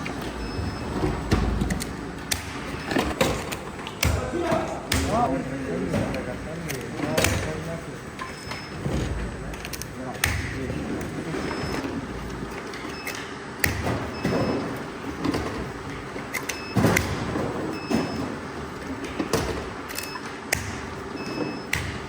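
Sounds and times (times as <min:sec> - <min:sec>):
factory machinery humming: 0:00.0 - 0:22.0.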